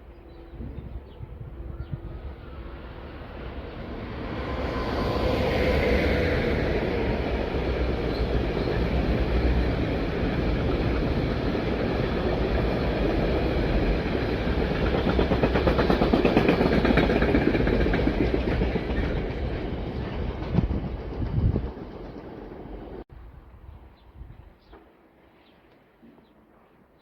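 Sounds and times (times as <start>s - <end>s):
train wheels rumbling on rails: 0.3s - 23.0s.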